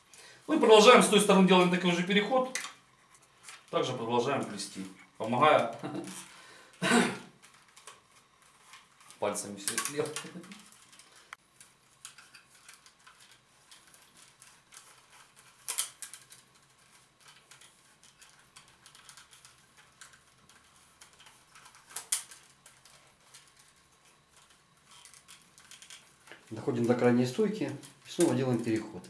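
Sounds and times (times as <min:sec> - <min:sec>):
willow rods rustling and clicking: 0:00.0 - 0:06.4, 0:07.4 - 0:29.0.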